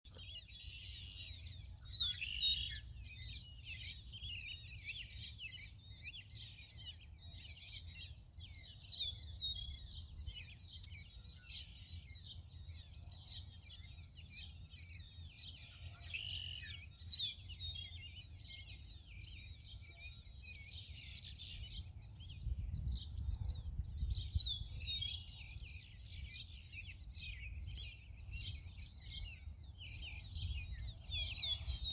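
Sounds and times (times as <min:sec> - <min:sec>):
birds chattering and warbling: 0:00.1 - 0:31.9.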